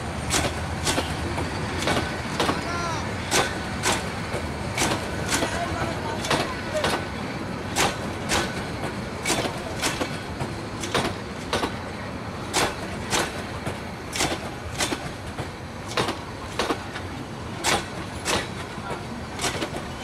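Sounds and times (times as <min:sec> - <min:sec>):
train running gear rumble: 0:00.0 - 0:20.0
train wheels clacking over rail joint: 0:00.0 - 0:20.0.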